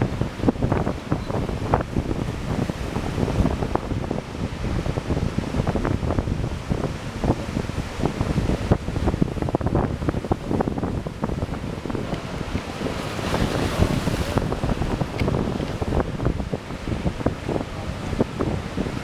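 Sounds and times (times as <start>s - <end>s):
ocean surf rushing: 0.0s - 19.0s
wind buffeting microphone: 0.0s - 19.0s.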